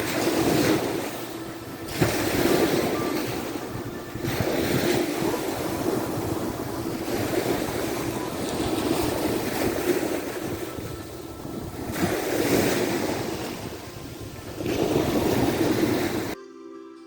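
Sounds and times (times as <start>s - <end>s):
waves breaking on shore: 0.0s - 16.4s
wind buffeting microphone: 0.0s - 16.4s.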